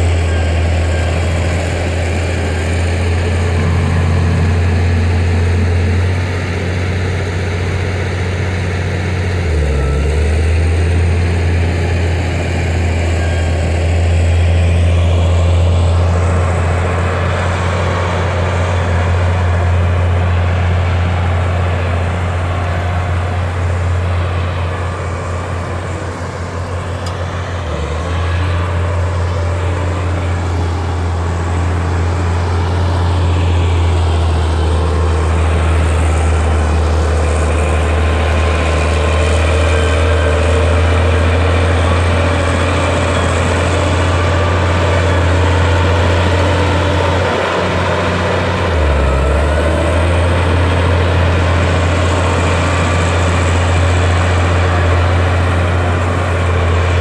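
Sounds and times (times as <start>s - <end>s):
heavy diesel engines droning: 0.0s - 57.0s.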